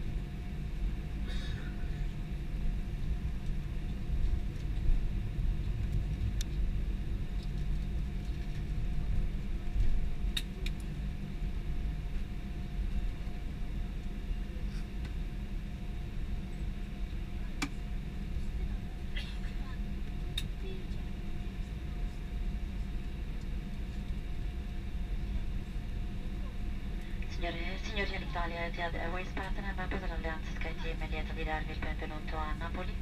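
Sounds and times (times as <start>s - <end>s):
aircraft engines and wheels rumbling: 0.0s - 33.0s
faint steady whine: 0.0s - 33.0s.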